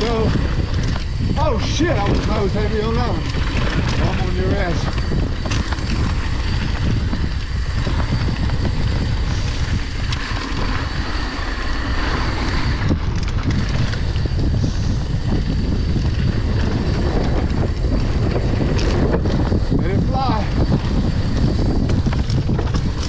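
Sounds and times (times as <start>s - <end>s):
bike frame rattling: 0.0s - 23.0s
bike tyres on dirt trail: 0.0s - 23.0s
wind buffeting microphone: 0.0s - 23.0s.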